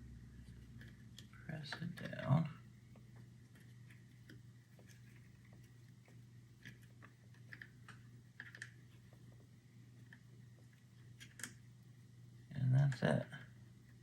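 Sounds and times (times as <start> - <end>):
low steady hum: 0.0 - 14.0
faint clicks and taps: 0.4 - 11.7.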